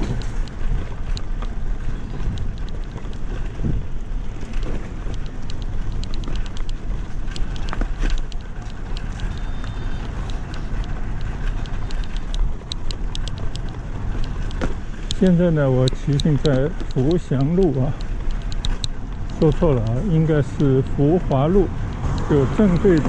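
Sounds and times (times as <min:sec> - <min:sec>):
bicycle ticks and rattles: 0:00.0 - 0:23.0
wind on microphone: 0:00.0 - 0:23.0.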